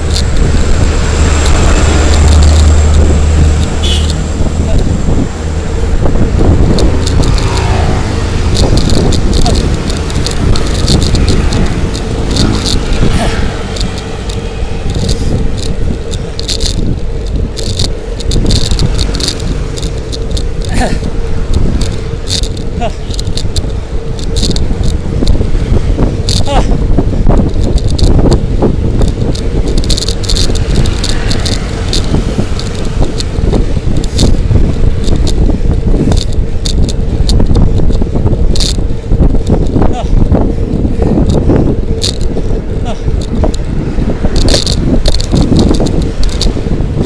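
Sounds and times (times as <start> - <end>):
bicycle rumble and hum: 0.0 - 47.0
bike rattling clicks: 0.0 - 47.0
road noise: 0.0 - 47.0.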